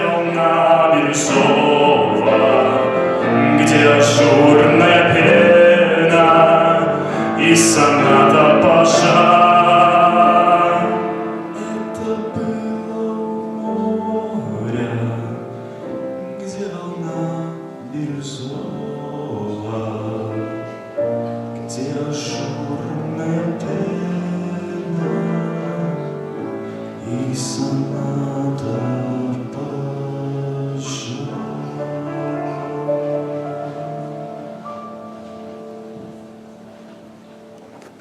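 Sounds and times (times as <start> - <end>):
slow instrumental chords: 0.0 - 38.0.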